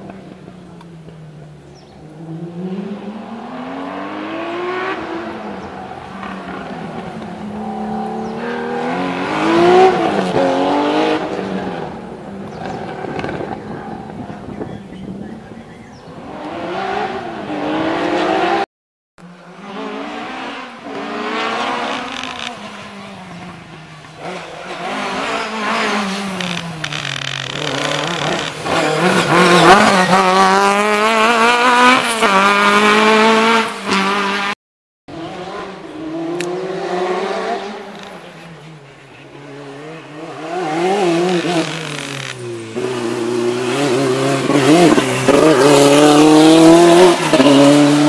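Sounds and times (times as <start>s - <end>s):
rally car engines revving: 0.0s - 18.7s, 19.3s - 48.0s.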